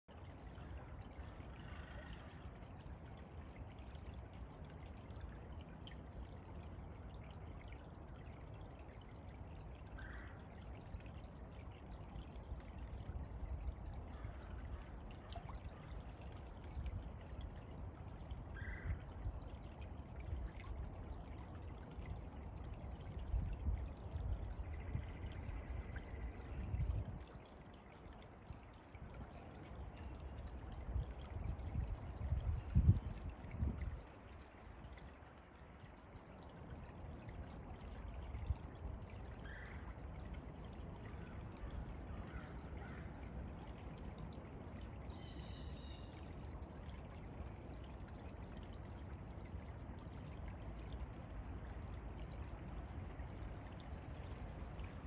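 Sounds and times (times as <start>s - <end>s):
brook trickling over gravel: 0.1s - 55.0s.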